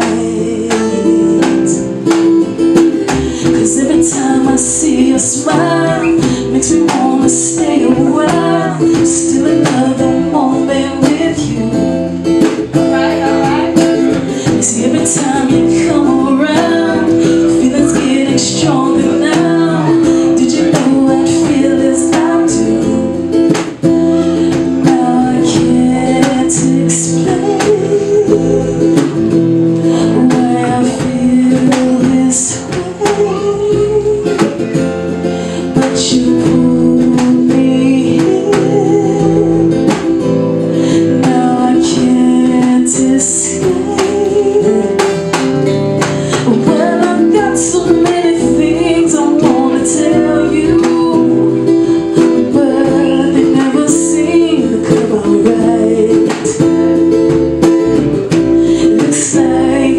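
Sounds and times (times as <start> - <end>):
person singing: 0.0 - 57.3, 58.2 - 59.9
electric bass: 0.0 - 59.9
hand drum: 0.0 - 59.9
strummed acoustic guitar: 0.0 - 59.9.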